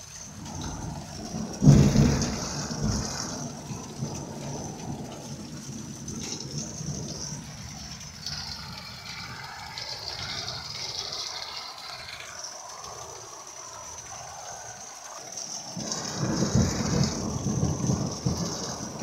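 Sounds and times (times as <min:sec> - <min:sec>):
steady rain: 0:00.0 - 0:19.0
thunder rolling: 0:00.4 - 0:12.9, 0:15.7 - 0:19.0.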